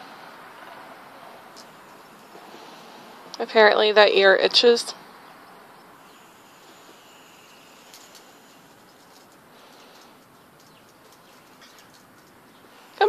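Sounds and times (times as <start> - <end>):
faint outdoor hiss: 0.0 - 13.0
small birds chirping: 0.0 - 13.0.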